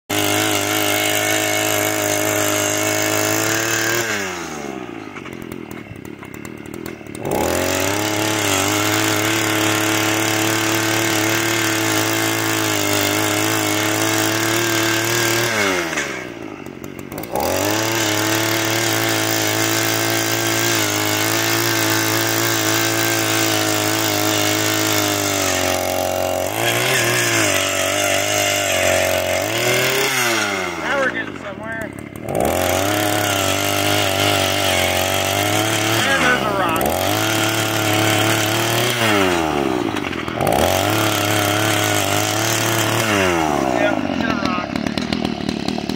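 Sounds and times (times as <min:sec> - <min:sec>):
auger engine revving and idling: 0:00.1 - 0:45.9.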